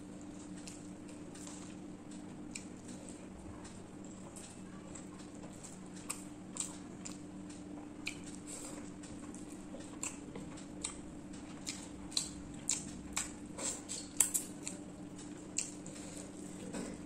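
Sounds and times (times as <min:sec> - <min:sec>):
person chewing food: 0:00.2 - 0:17.0.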